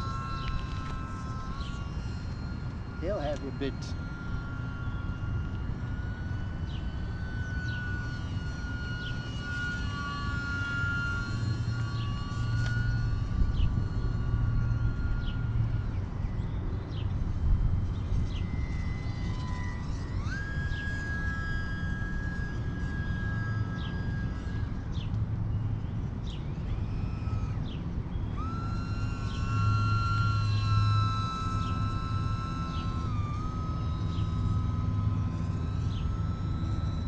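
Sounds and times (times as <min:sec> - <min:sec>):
model plane electric motor whining: 0:00.0 - 0:37.0.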